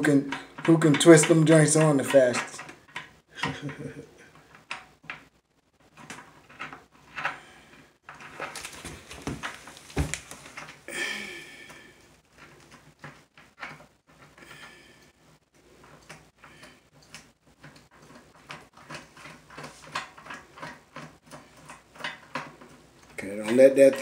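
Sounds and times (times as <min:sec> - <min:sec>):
hands working clicks and rustles: 0:00.0 - 0:24.0.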